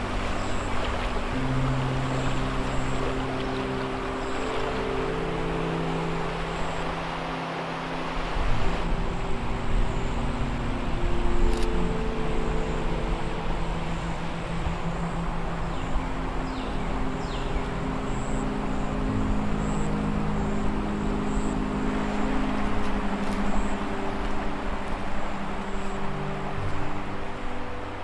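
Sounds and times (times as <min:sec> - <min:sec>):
creek water rushing: 0:00.0 - 0:28.0
low drone of held tones: 0:00.0 - 0:28.0.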